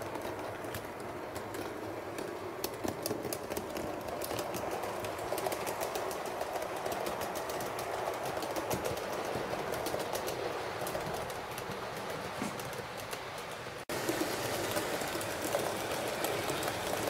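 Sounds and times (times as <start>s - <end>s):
model train rumbling: 0.0s - 17.0s
wheels clicking over rail joints: 0.0s - 17.0s.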